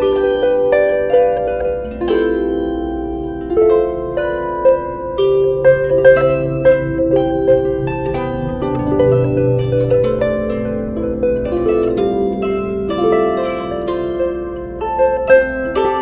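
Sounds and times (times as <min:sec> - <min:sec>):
harp plucked: 0:00.0 - 0:16.0.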